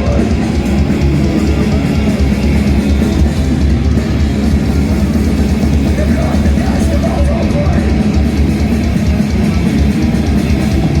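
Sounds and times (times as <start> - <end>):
grindcore band playing live: 0.0 - 11.0.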